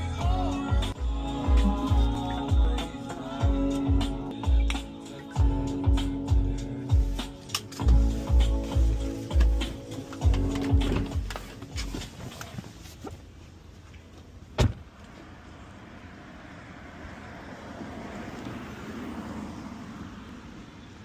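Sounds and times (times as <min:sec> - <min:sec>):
traffic noise: 0:00.0 - 0:21.0.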